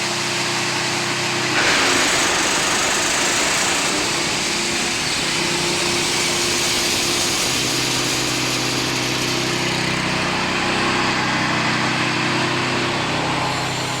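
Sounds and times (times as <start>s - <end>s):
petrol engine drone: 0.0s - 14.0s
wood chipper rushing: 0.0s - 14.0s.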